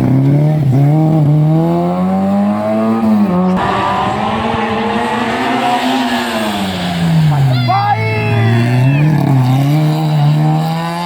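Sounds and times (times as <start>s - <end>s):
rally car engine revving: 0.0s - 11.0s
tyres rushing on road: 0.0s - 11.0s.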